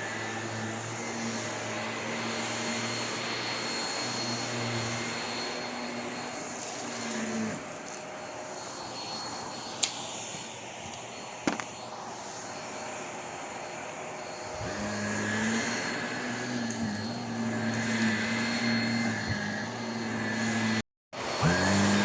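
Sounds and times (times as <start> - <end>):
vacuum cleaner motor running: 0.0 - 22.0.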